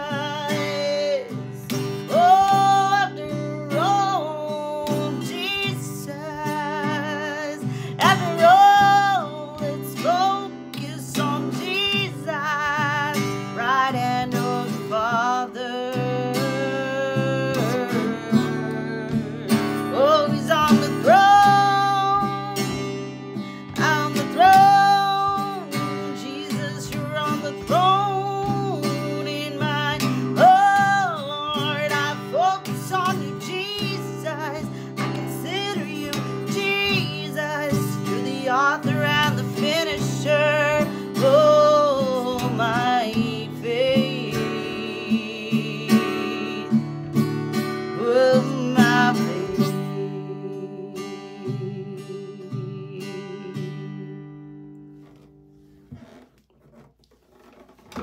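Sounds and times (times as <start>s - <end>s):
woman singing worship song: 0.0s - 54.4s
acoustic guitar strumming: 0.0s - 58.0s.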